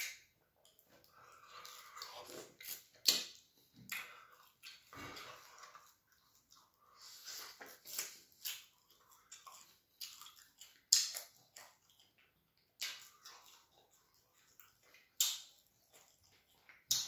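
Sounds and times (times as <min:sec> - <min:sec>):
man chewing food: 0:00.0 - 0:17.0.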